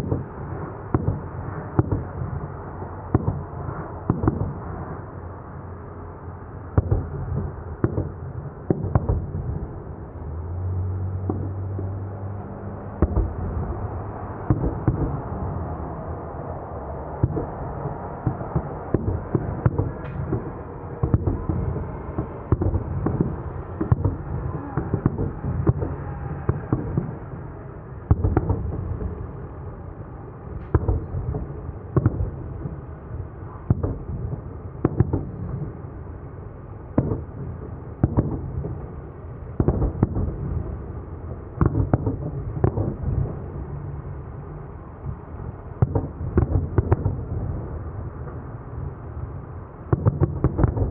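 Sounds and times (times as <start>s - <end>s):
fireworks bangs: 0.0s - 5.1s, 6.7s - 10.2s, 11.1s - 36.0s, 36.9s - 44.2s, 44.9s - 50.9s
steady rumble: 0.0s - 50.9s.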